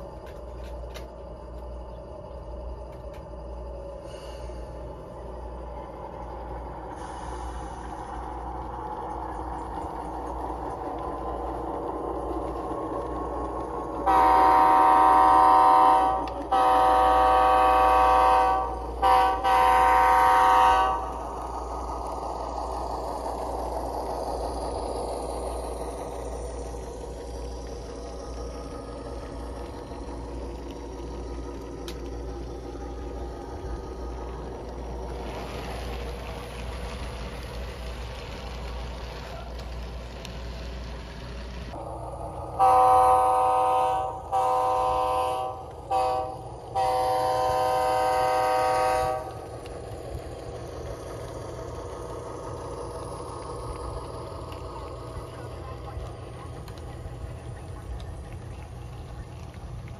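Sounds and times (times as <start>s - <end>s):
model diesel locomotive engine: 0.0s - 59.9s.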